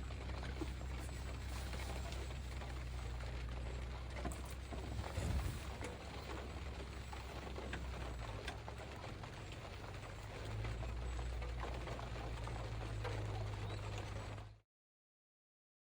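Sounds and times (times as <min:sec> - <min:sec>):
low steady rumble: 0:00.0 - 0:14.6.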